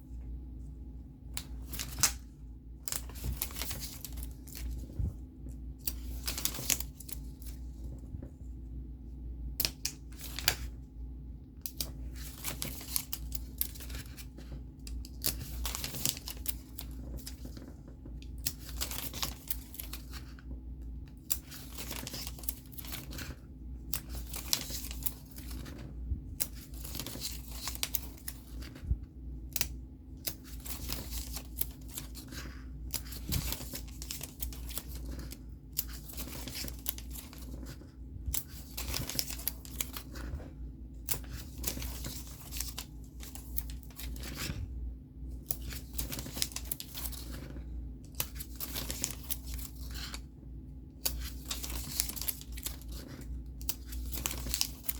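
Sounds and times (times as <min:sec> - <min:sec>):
steady low hum: 0:00.0 - 0:54.9
paper and plastic rustling: 0:02.9 - 0:05.2, 0:05.8 - 0:08.4, 0:11.7 - 0:20.5, 0:21.3 - 0:29.0, 0:30.2 - 0:44.8, 0:45.4 - 0:50.3, 0:51.0 - 0:54.9.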